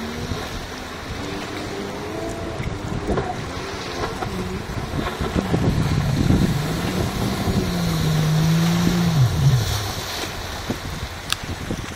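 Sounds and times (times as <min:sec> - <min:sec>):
jet ski engine running: 0:00.0 - 0:11.9
wind on microphone: 0:00.0 - 0:11.9.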